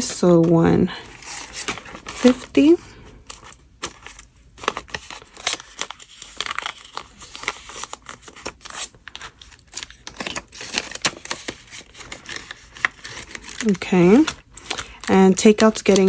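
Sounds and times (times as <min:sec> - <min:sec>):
paper banknotes crinkling: 0:00.0 - 0:16.0.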